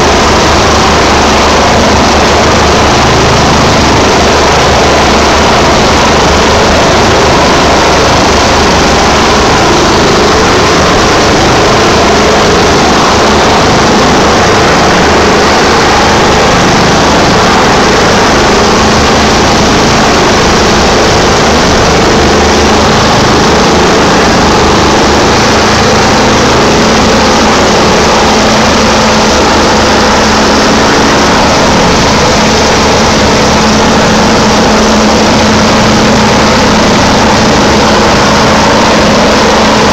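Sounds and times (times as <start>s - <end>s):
helicopter hovering: 0.0s - 39.9s.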